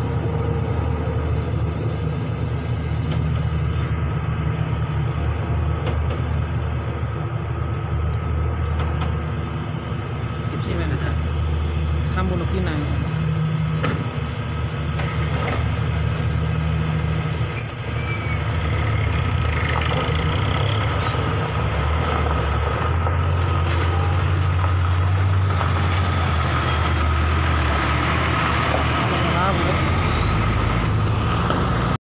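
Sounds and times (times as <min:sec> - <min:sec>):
truck diesel engine: 0:00.0 - 0:32.0.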